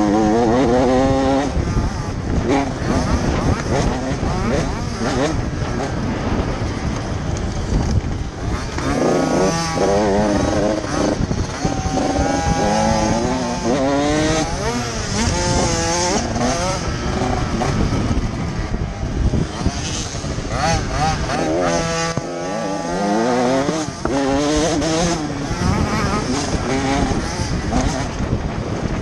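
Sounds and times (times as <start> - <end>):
dirt bike engine revving: 0.0 - 29.0
wind rush: 0.0 - 29.0.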